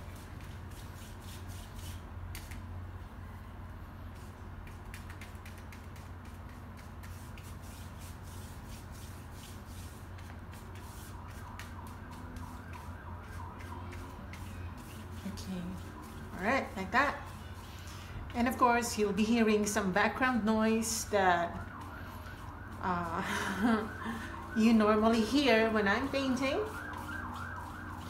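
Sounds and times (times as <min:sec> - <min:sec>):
paintbrush scratching on paper: 0:00.0 - 0:02.6, 0:04.1 - 0:28.0
low background hum: 0:00.0 - 0:28.0.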